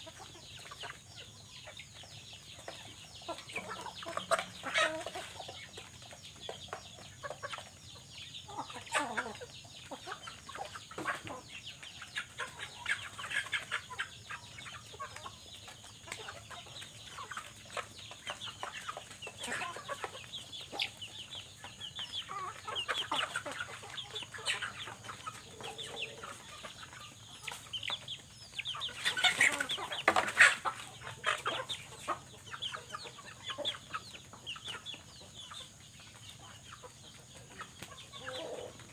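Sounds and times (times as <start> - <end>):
animal chirps or clucks: 0.0 - 38.9.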